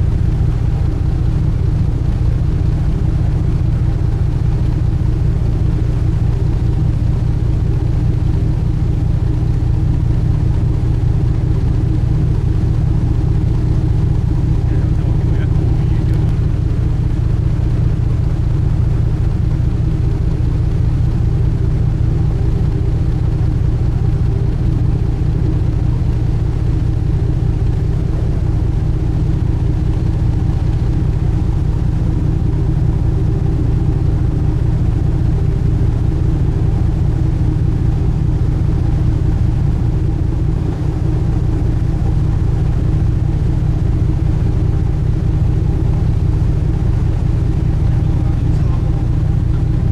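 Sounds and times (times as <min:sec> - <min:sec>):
ship engines droning: 0:00.0 - 0:49.9.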